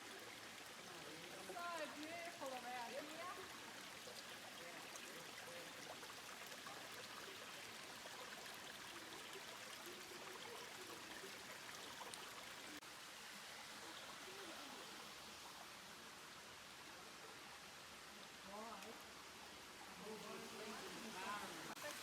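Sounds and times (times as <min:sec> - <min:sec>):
waterfall and creek water rushing: 0:00.0 - 0:22.0.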